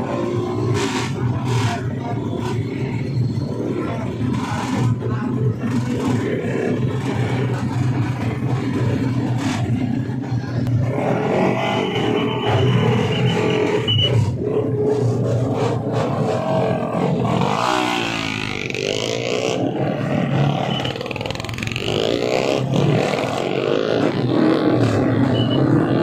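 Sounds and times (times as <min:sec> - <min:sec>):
racing motorcycles passing: 0:03.5 - 0:26.0.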